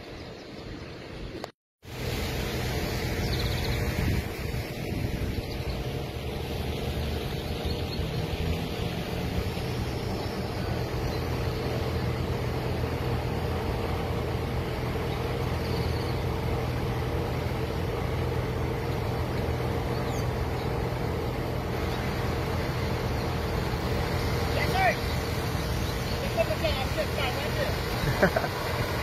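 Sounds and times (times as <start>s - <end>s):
constant rushing noise: 1.4s - 29.0s.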